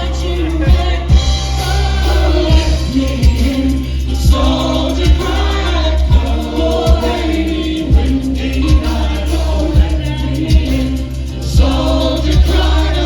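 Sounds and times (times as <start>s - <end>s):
deep bass: 0.0s - 13.0s
steady drum beat: 0.0s - 13.0s
voices singing together: 0.0s - 13.0s.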